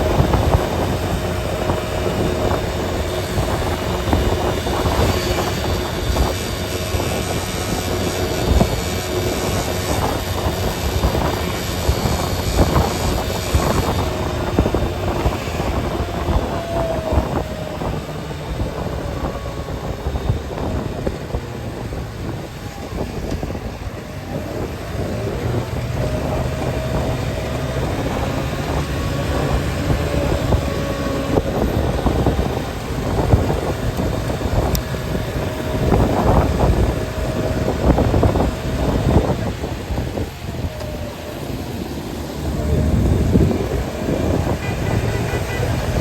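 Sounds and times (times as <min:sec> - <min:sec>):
vehicle engine and road rumble: 0:00.0 - 0:46.0
vehicle jolts: 0:00.0 - 0:46.0.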